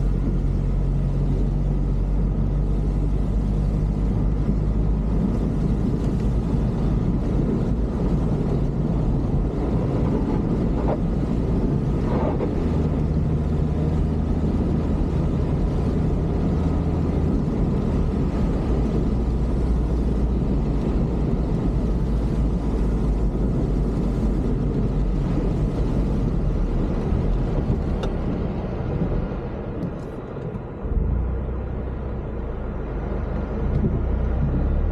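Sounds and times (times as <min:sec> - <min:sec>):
road noise: 0:00.0 - 0:34.9
vehicle engine hum: 0:00.0 - 0:34.9.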